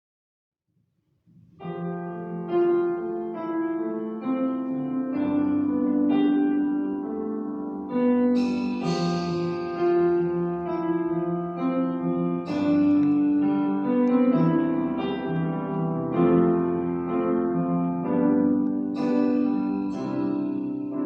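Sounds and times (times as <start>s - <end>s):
slow piano chords: 1.3s - 21.0s.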